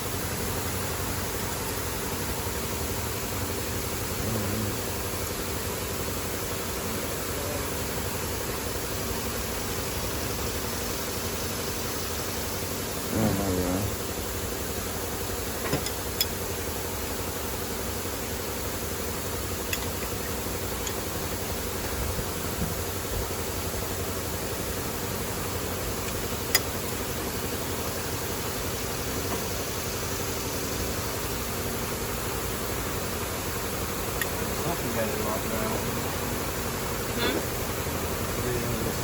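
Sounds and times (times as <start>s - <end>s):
mechanical hum and hiss: 0.0s - 39.0s.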